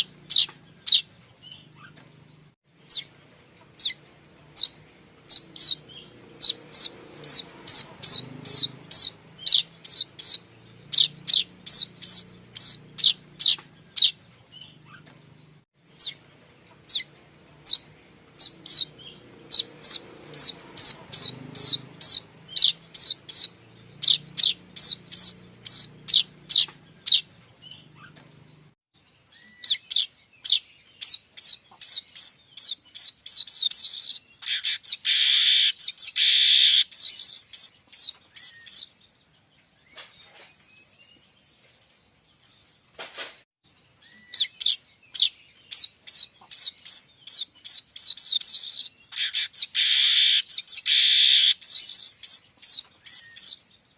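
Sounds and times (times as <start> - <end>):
sharp high bird chirps: 0.0 - 2.1, 2.8 - 3.1, 4.6 - 15.2, 15.9 - 16.2, 16.9 - 28.3, 29.3 - 41.4, 44.0 - 53.9.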